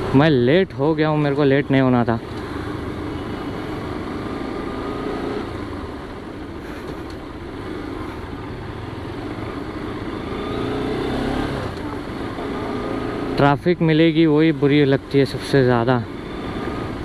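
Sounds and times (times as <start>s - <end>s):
hum of road traffic: 0.0s - 17.0s
motorcycle engine running: 2.3s - 17.0s.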